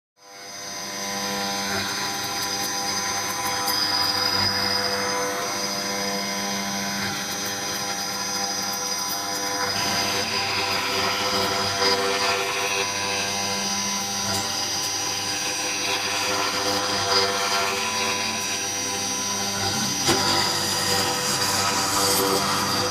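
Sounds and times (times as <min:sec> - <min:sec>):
router spindle high whine: 0:00.2 - 0:22.9
end mill cutting wood: 0:00.4 - 0:22.9.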